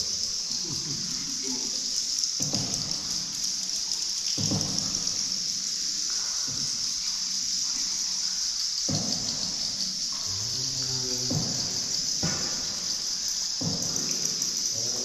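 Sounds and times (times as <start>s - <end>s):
high-pitched insect-like drone: 0.0s - 15.0s
water splashing: 0.0s - 15.0s.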